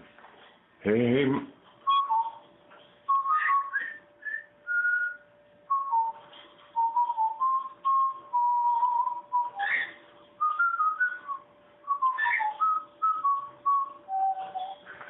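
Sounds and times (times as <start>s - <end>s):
whistled notes: 1.8s - 2.4s, 3.1s - 14.9s.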